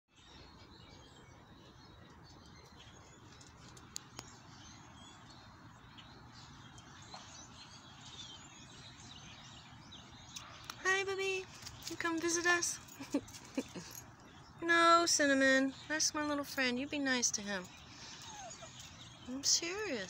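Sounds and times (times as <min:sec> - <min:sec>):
faint birds chirping: 0:00.1 - 0:20.0.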